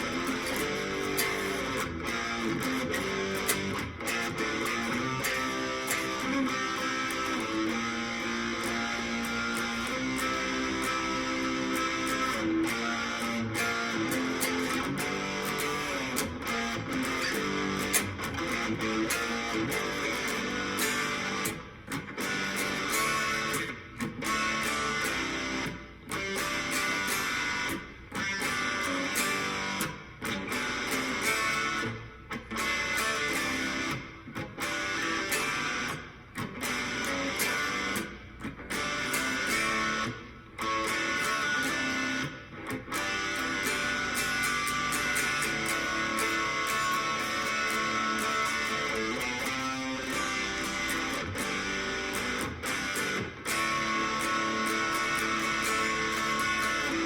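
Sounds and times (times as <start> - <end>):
overdriven electric guitar riff: 0.0 - 57.0.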